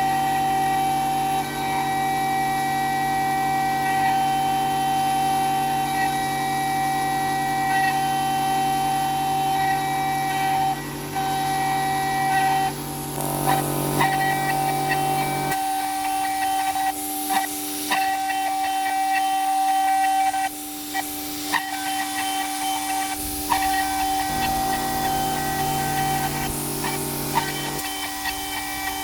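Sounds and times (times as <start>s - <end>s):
motors humming in lower tones: 0.0s - 29.0s
spindle high whine: 0.0s - 29.0s.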